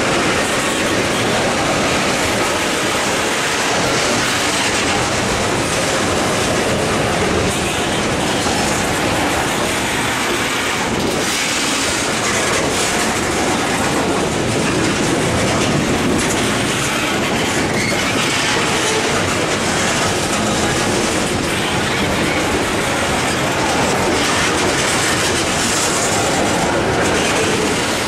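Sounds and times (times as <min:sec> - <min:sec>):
train wheels rumbling on rail: 0:00.0 - 0:28.0
wheels clacking over rail joints: 0:00.0 - 0:28.0.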